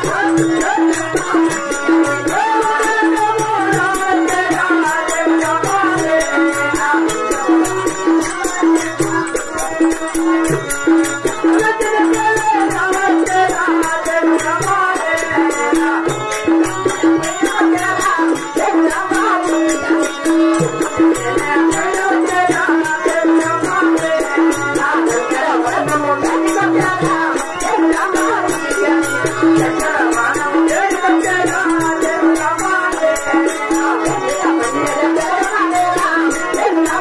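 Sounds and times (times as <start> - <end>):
hand drum beating: 0.0 - 37.0
harmonium melody over drone: 0.0 - 37.0.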